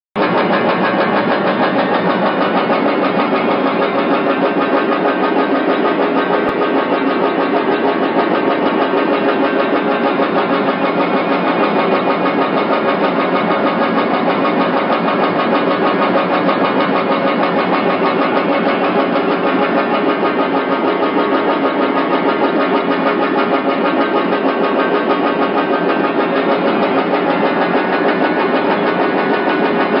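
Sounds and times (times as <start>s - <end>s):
machine striking piano keys: 0.2s - 30.0s.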